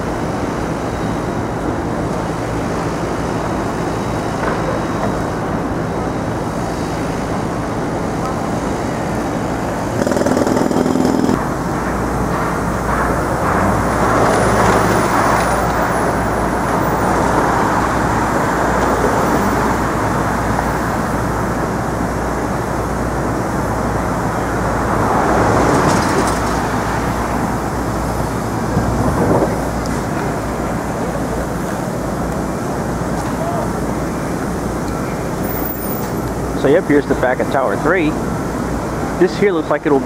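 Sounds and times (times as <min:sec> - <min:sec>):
low traffic rumble: 0:00.0 - 0:40.0
passing vehicles: 0:00.0 - 0:40.0.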